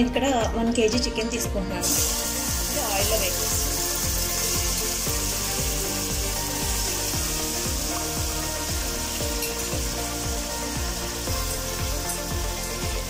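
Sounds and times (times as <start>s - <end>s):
background music with beat: 0.0s - 13.0s
chicken sizzling in oil: 1.8s - 13.0s.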